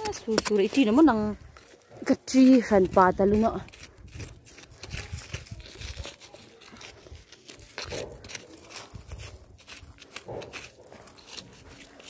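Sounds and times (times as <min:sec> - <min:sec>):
wooden stick scraping stony soil: 0:00.0 - 0:12.0.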